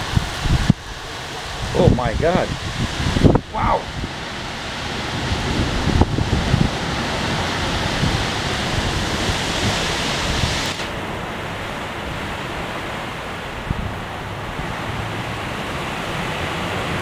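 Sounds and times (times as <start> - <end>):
heavy rain pouring: 0.0 - 17.0
wind gusts buffeting microphone: 0.0 - 17.0.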